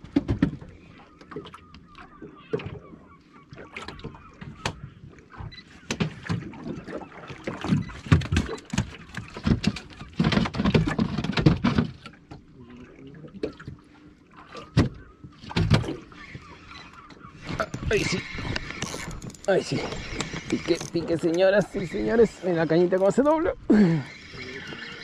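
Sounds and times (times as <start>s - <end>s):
water around boat: 0.0s - 25.0s.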